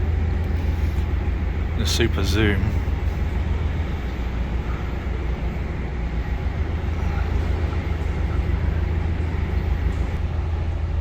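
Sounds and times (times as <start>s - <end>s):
diesel boat engine rumbling: 0.0s - 11.0s.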